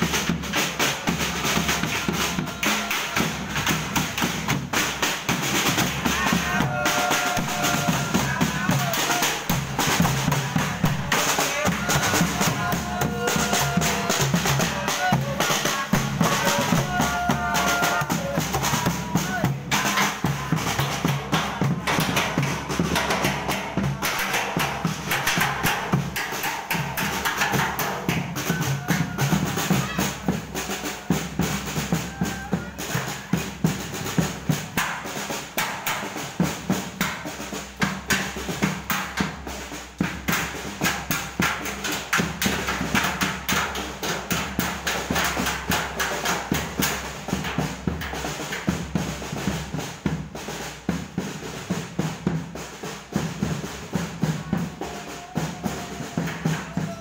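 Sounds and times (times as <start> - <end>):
drums and percussion beating: 0.0 - 57.0.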